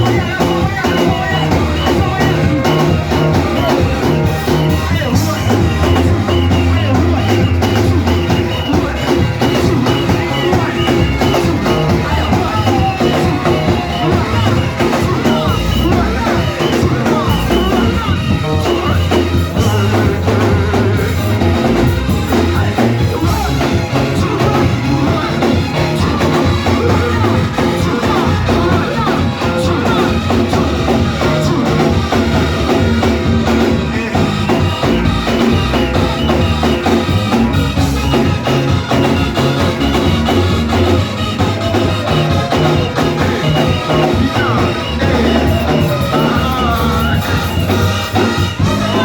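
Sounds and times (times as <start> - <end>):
bass line: 0.0 - 49.0
drum kit beat: 0.0 - 49.0
upbeat band music: 0.0 - 49.0.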